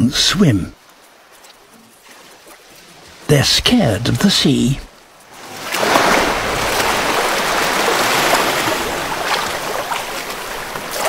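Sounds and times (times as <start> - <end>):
surf washing up sand: 1.4 - 11.0.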